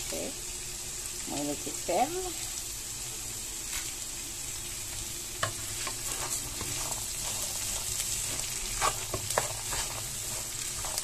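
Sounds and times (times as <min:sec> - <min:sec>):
beans sizzling in oil: 0:00.0 - 0:11.0.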